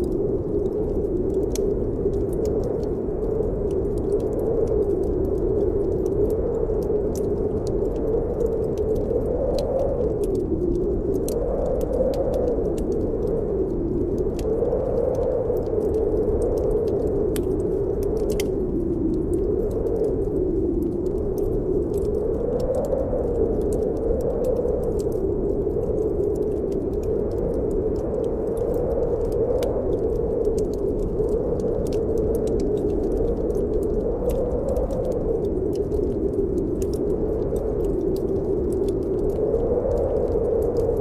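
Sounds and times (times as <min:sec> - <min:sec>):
wind howling: 0:00.0 - 0:41.0
wood fire crackling: 0:00.0 - 0:41.0.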